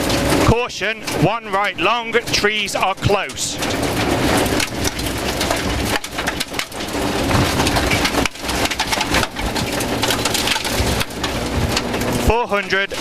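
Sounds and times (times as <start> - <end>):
gravel rattling against underside: 0.0 - 13.0
rally car engine running hard: 0.0 - 13.0.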